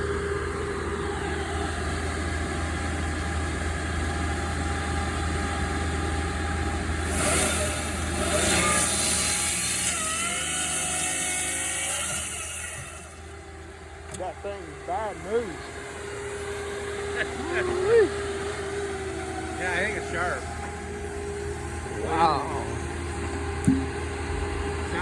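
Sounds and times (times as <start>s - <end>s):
heavy equipment engine revving: 0.0s - 9.8s, 10.8s - 25.0s.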